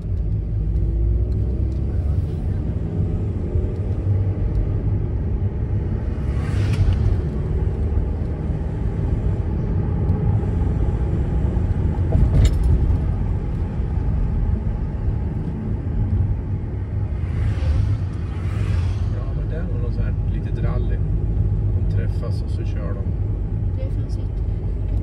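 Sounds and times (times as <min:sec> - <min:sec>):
engine and tyre rumble: 0:00.0 - 0:25.0.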